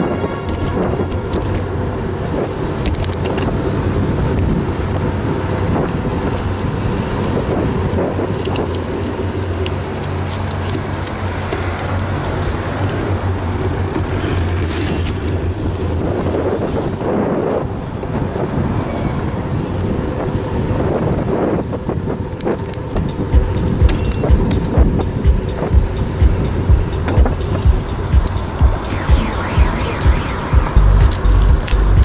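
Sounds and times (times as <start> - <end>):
wind buffeting microphone: 0.0 - 10.2, 10.8 - 32.0
bicycle tyre noise: 0.0 - 28.9
car traffic: 0.0 - 32.0.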